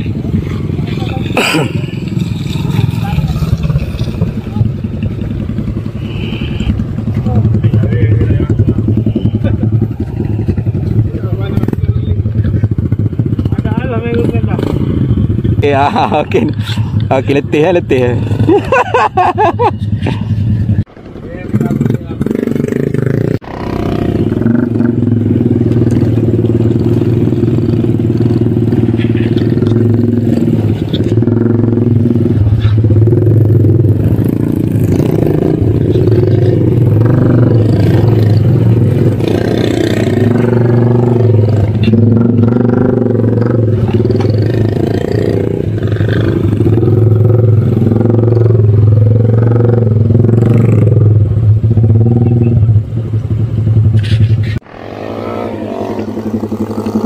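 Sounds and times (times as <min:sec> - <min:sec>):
motorcycle engine under load: 0:00.0 - 0:57.0.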